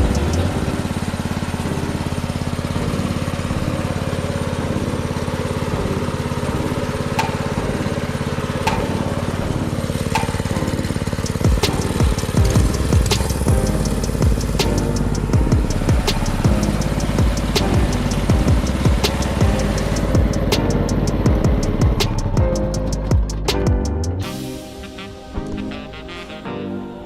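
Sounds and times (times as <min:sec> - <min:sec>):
minibike engine running steadily: 0:00.0 - 0:24.2.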